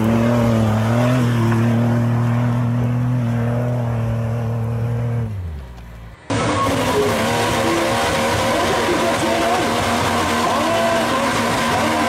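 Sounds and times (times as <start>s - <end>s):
engine running hard: 0.0s - 12.0s.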